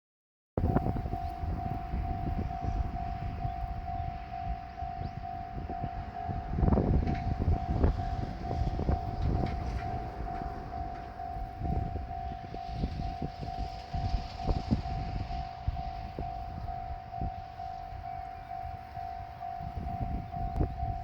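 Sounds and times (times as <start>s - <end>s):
diesel train rumble: 0.6s - 21.0s
level crossing electronic bell: 0.7s - 21.0s.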